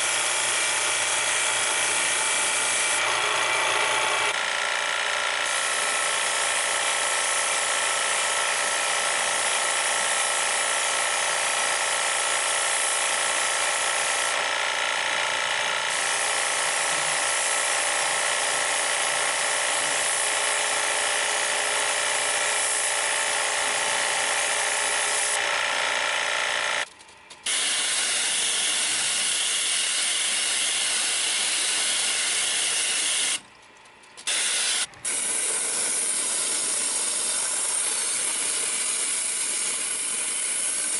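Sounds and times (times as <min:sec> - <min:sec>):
sprayer motor whine: 0:00.0 - 0:33.4.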